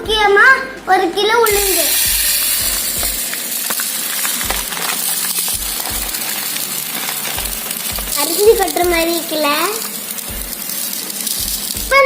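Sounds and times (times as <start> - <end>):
dry grains rattling: 1.5 - 12.0.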